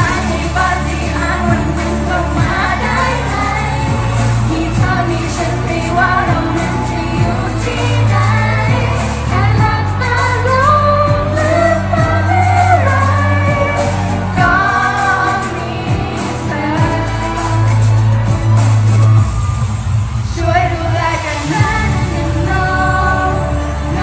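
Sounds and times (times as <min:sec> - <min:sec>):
backing music with bass and drums: 0:00.0 - 0:20.4, 0:21.3 - 0:24.0
person singing pop song: 0:00.0 - 0:24.0.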